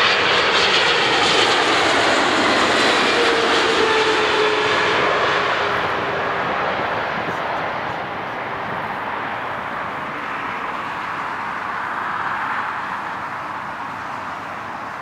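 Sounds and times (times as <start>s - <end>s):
jet airliner landing: 0.0s - 15.0s
cars passing: 0.2s - 15.0s.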